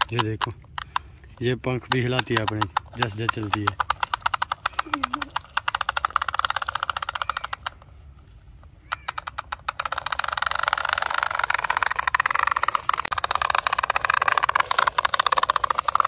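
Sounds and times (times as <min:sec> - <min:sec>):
toy wings clicking rapidly: 0:00.0 - 0:08.0, 0:08.6 - 0:16.0.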